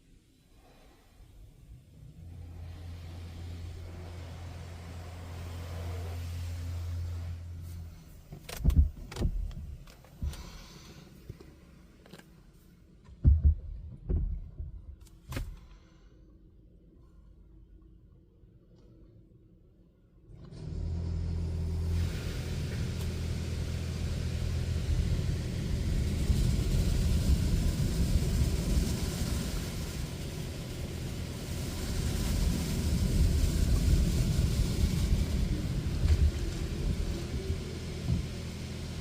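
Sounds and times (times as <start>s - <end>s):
low motor hum: 0.6s - 12.1s, 16.6s - 39.0s.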